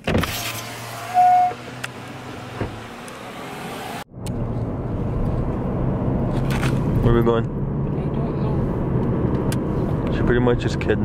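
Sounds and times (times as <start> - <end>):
road and engine noise in moving car: 0.0 - 11.0.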